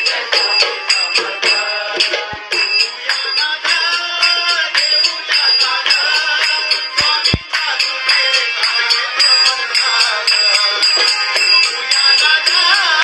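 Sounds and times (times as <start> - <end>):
jingling percussion beat: 0.0 - 13.0.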